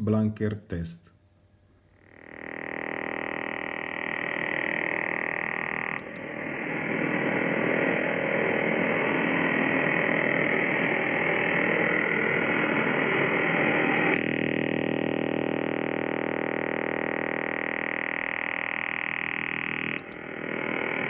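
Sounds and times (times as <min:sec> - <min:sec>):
rough noisy radio buzz: 0:02.0 - 0:21.0.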